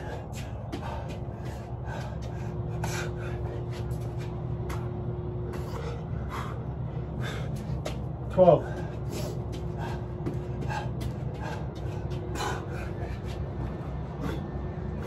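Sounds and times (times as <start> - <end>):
person breathing hard: 0.0 - 4.8, 5.4 - 8.0, 8.6 - 15.0
low hum: 0.0 - 15.0.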